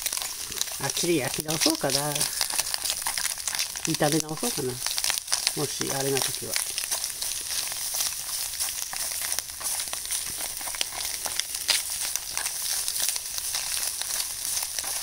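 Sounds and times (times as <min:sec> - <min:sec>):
vegetables sizzling and crackling: 0:00.0 - 0:15.0.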